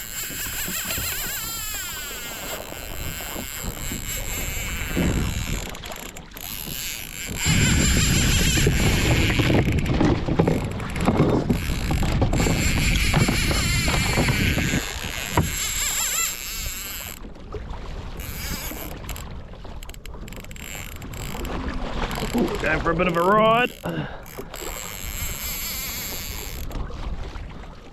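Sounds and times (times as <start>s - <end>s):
fishing reel clicking: 0.0s - 17.3s, 18.2s - 22.5s, 23.1s - 26.8s
wind buffeting microphone: 0.0s - 27.8s
water rushing along a kayak: 0.0s - 27.9s.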